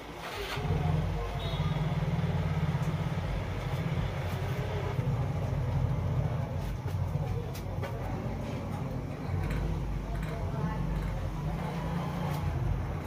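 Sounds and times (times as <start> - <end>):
low engine-like rumble: 0.3 - 13.0.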